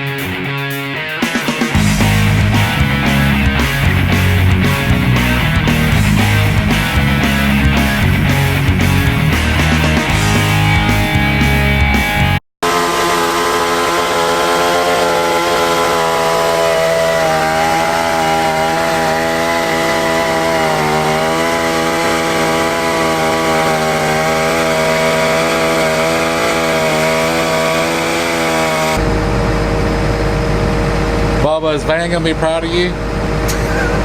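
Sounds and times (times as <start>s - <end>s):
chainsaw engine running: 1.3s - 29.3s.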